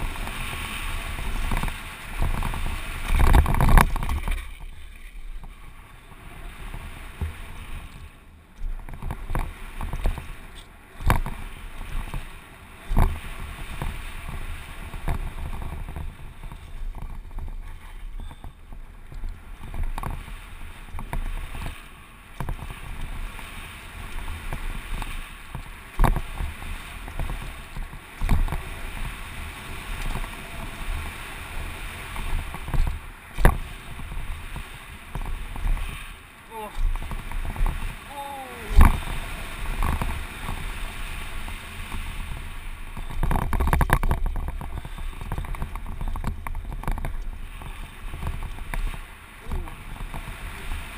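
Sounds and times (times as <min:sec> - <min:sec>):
tyres on dirt and gravel: 0:00.0 - 0:50.9
wind rumbling on microphone: 0:00.0 - 0:50.9.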